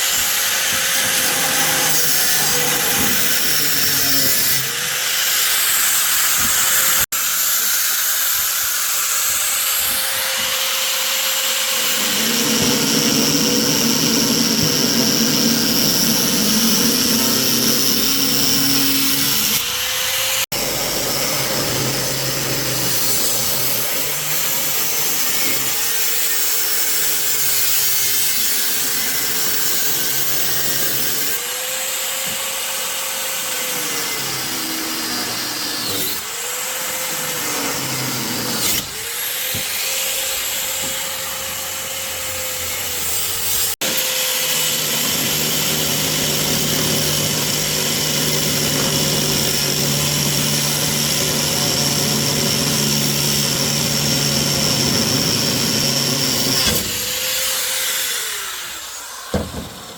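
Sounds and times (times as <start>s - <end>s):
handheld power tool running: 0.0s - 59.9s.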